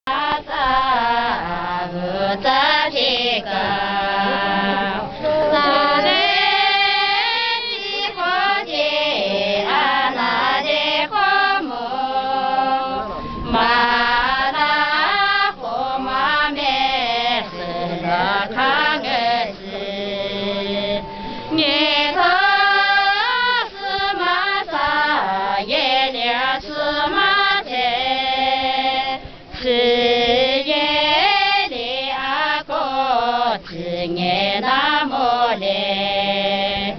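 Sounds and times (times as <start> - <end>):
women singing in unison: 0.1 - 36.9.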